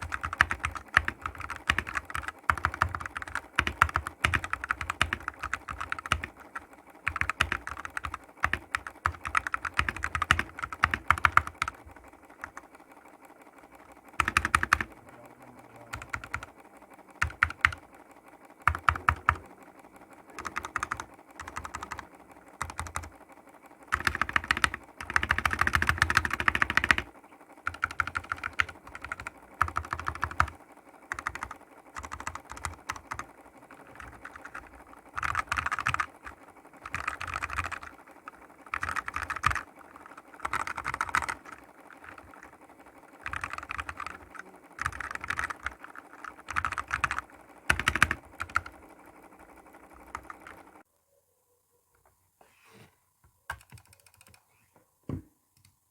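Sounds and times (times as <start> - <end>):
mechanical keyboard typing: 0.0 - 50.9, 53.5 - 54.5.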